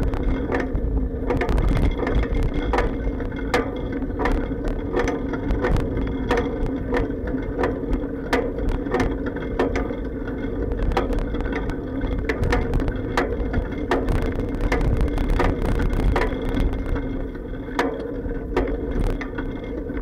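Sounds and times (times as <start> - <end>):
bike clacks and bumps: 0.0 - 20.0
muffled tyres rolling on pavement: 0.0 - 20.0.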